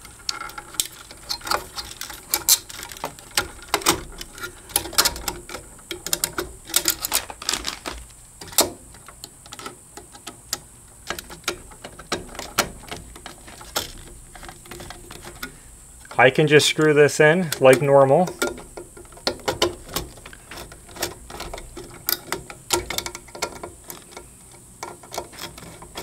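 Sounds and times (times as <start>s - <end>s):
clicks and knocks of wires: 0.0s - 26.0s.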